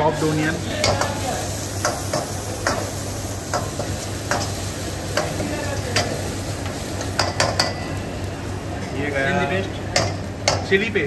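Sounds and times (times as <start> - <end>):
onion sizzling in a wok: 0.0 - 11.0.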